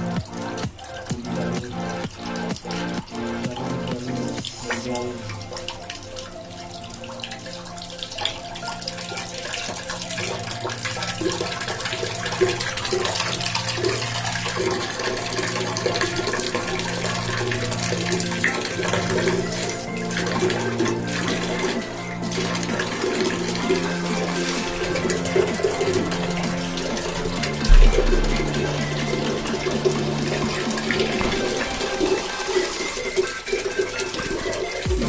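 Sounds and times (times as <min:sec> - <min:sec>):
background music: 0:00.0 - 0:35.0
water running from a tap: 0:00.0 - 0:35.0.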